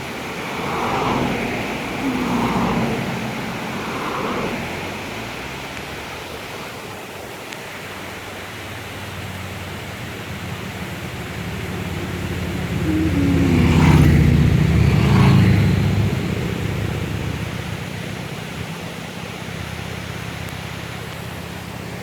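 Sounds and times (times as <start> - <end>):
vehicle passing by: 0.0 - 6.6, 8.4 - 20.4.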